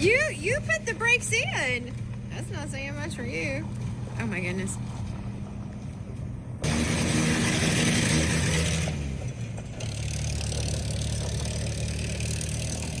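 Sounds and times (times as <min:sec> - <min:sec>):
jeep engine running: 0:00.0 - 0:13.0.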